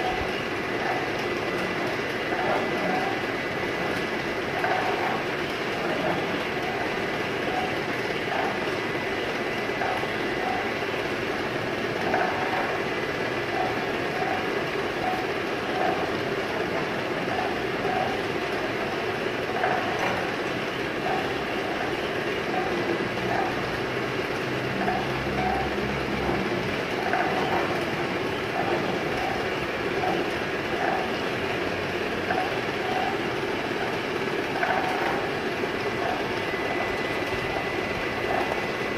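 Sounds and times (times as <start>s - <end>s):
labelling machine clatter: 0.0s - 38.9s.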